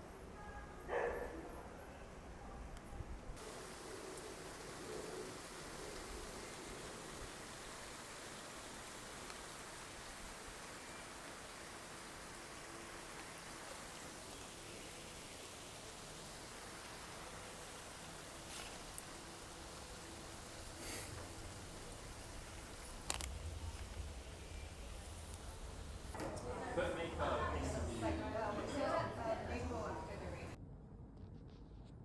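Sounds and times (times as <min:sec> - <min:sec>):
soft hiss: 0:02.6 - 0:30.6.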